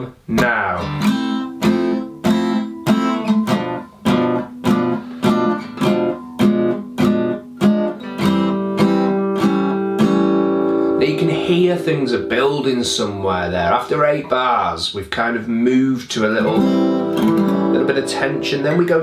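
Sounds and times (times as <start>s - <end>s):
acoustic guitar strumming jazz chords: 0.0s - 19.0s.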